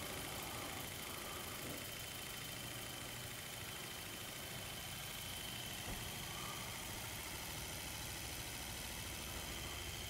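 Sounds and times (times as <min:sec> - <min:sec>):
small motor humming with high whine: 0:00.0 - 0:10.0.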